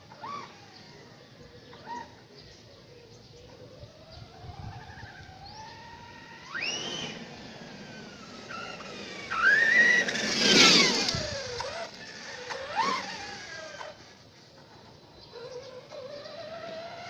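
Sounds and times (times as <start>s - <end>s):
rc truck electric motor whine: 0.0s - 2.3s, 3.4s - 17.0s.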